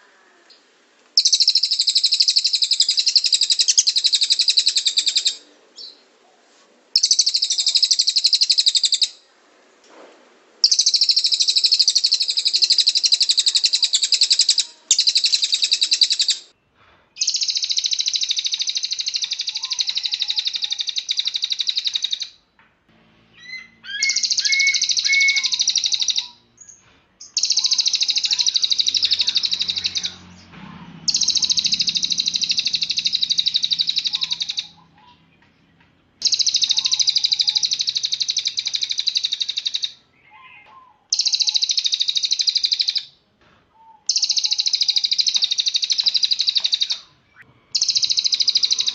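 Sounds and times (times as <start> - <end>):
bird singing high-pitched bursts: 1.2 - 6.0, 7.0 - 9.3, 10.6 - 16.5, 17.2 - 22.4, 23.2 - 30.5, 31.1 - 35.2, 36.2 - 43.2, 43.8 - 48.9.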